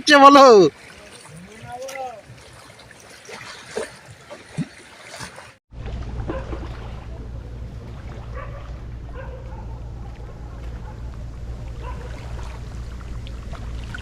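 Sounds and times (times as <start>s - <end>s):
river waves splashing: 0.0s - 14.0s.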